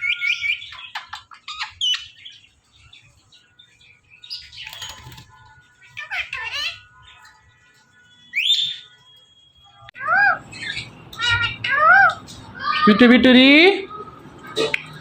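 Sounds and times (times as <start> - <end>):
parakeet chirping and squeaking: 0.0 - 12.9.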